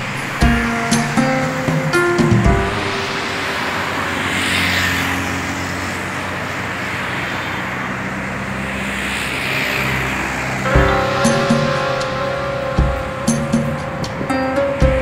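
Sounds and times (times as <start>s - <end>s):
traffic rushing by: 0.0s - 15.0s.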